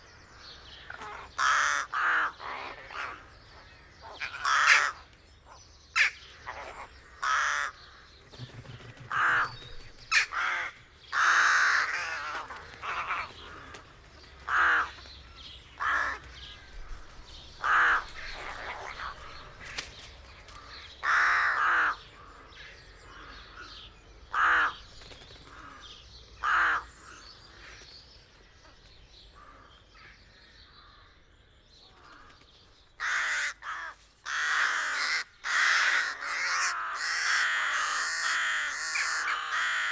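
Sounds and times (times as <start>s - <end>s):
rooks cawing: 0.6s - 27.9s, 29.2s - 31.2s, 33.0s - 39.9s.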